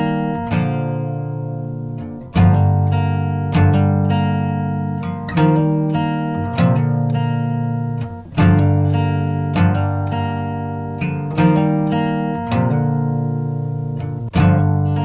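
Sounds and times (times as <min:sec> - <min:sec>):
guitar strumming slow chords: 0:00.0 - 0:15.0.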